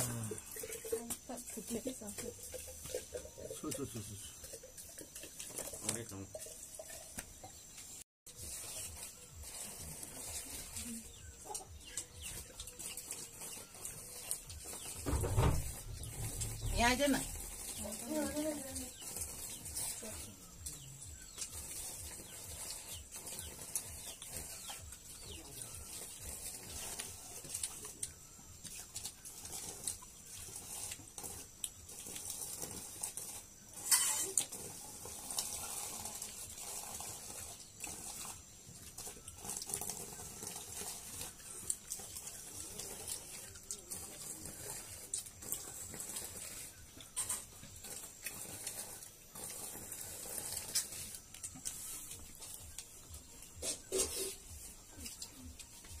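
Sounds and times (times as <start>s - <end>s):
people chewing and slurping: 0.0s - 56.0s.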